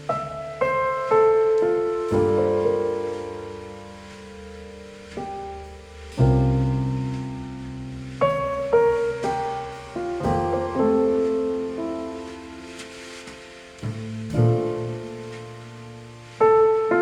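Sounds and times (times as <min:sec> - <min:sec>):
piano music through speakers: 0:00.0 - 0:17.0.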